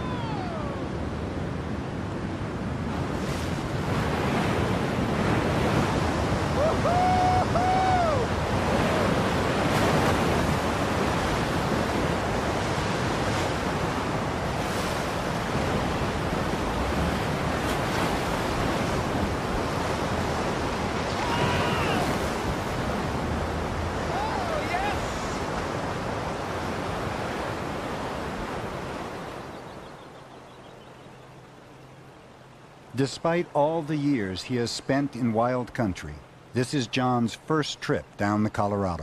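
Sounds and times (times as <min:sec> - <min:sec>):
rushing water: 0:00.0 - 0:39.0.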